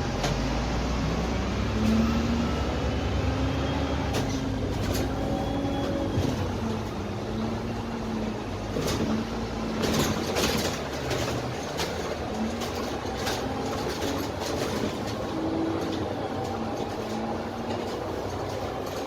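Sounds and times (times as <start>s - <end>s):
bus engine rumble: 0.0s - 19.0s
bus body rattles: 3.4s - 19.0s.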